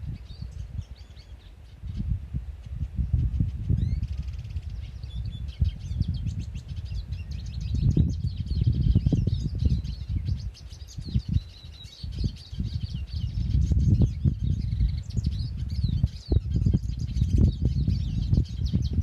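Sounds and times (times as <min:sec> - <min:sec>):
small birds chirping: 0:00.0 - 0:19.0
wind rumble on microphone: 0:00.0 - 0:19.0.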